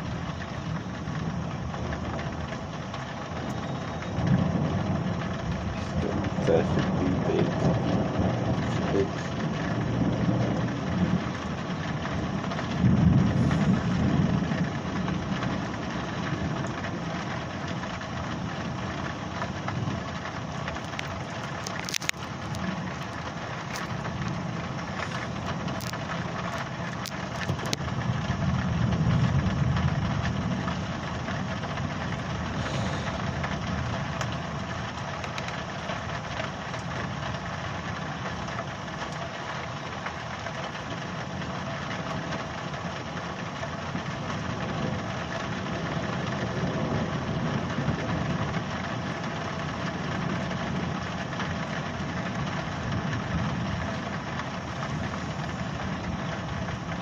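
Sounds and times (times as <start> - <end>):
storm noise hiss: 0.0 - 57.0
thunder rumbling: 0.0 - 57.0.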